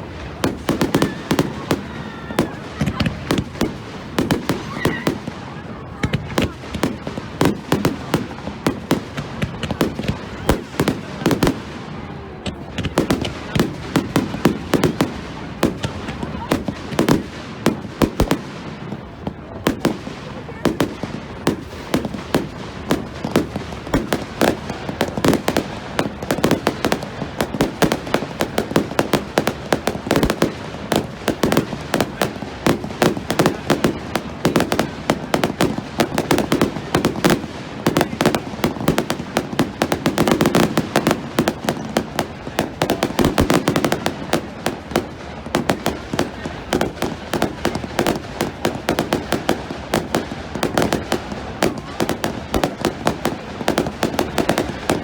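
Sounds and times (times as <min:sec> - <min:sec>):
fireworks cracking and popping: 0:00.0 - 0:55.0.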